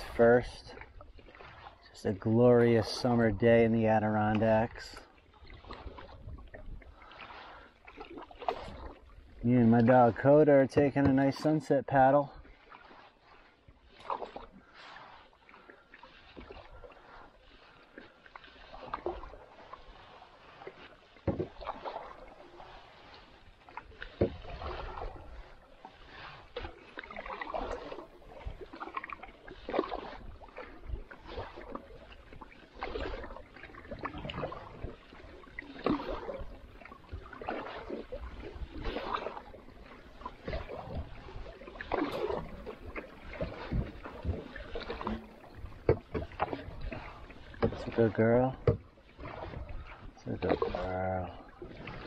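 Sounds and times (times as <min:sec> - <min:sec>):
canoe paddle splashing in water: 0:00.0 - 0:52.0
paddle knocking: 0:00.0 - 0:52.0.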